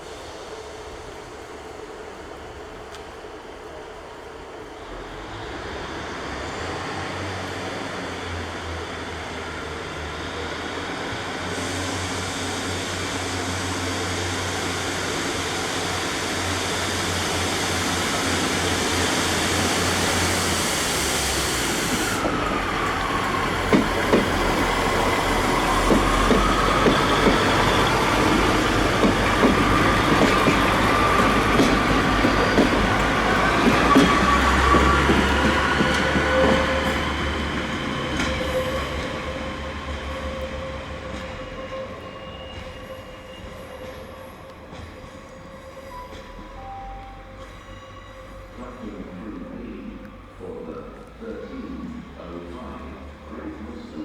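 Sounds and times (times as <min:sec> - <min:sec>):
diesel train engine drone: 0:00.0 - 0:54.0.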